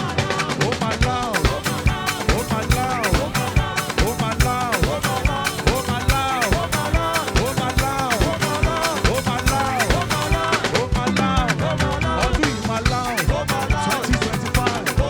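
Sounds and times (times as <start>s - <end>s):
drum kit beat: 0.0s - 15.0s
gospel band playing: 0.0s - 15.0s.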